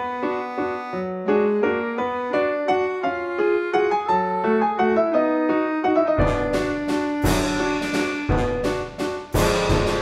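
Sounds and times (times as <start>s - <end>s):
light piano tune: 0.0s - 10.0s.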